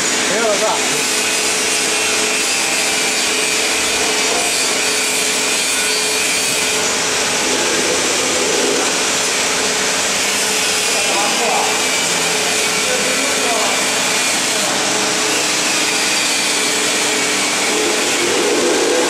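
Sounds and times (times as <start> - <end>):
heat press machinery hissing: 0.0 - 19.0.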